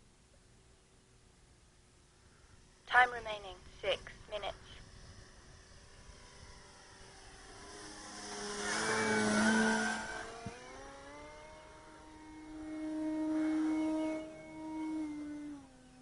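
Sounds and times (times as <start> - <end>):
model plane propeller whine: 1.5 - 16.0.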